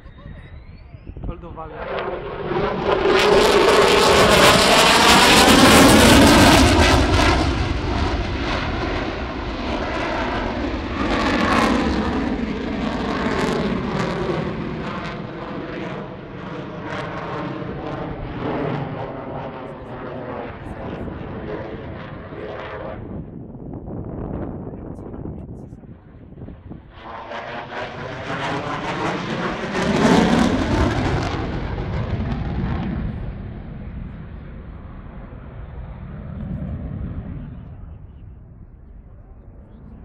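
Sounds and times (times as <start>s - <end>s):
fighter jet engine passing: 0.0s - 40.0s.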